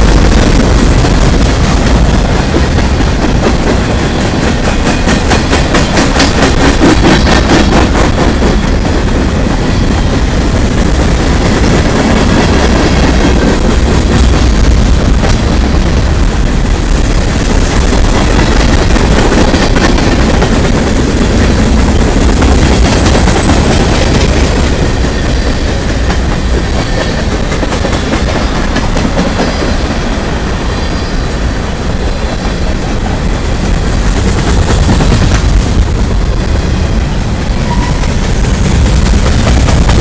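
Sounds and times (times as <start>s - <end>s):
freight train wheels rumbling on rails: 0.0s - 40.0s.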